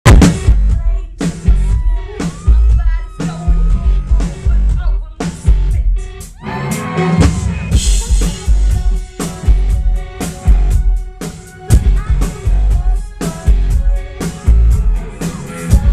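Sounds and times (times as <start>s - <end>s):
drum kit: 0.0s - 15.9s
live rock band: 0.1s - 15.9s
person singing: 0.4s - 15.9s.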